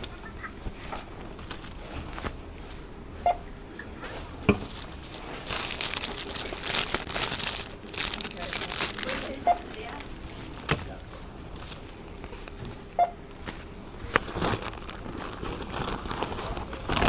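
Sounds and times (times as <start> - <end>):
plastic crinkling and rustling: 0.6 - 2.9, 4.0 - 17.0.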